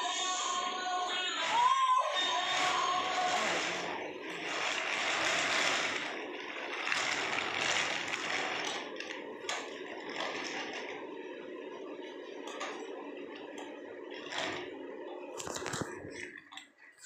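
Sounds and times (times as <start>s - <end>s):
plastic wheels rattling on tiles: 0.0s - 16.6s.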